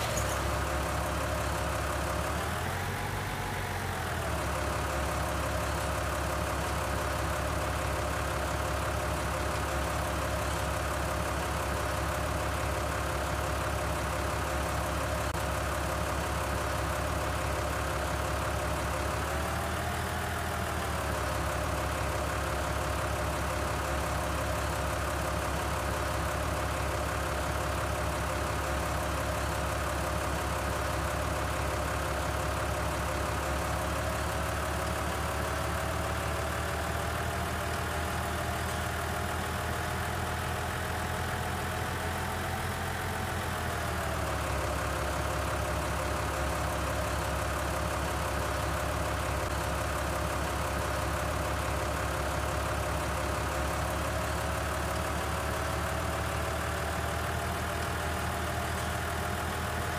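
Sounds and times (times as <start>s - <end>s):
engine idling and revving: 0.0s - 59.9s.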